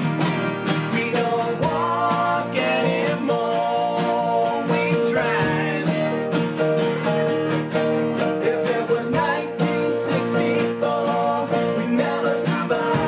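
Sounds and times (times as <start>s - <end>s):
live band playing: 0.0s - 3.5s, 4.1s - 13.0s
strummed guitars: 0.0s - 13.0s
person singing: 0.7s - 13.0s.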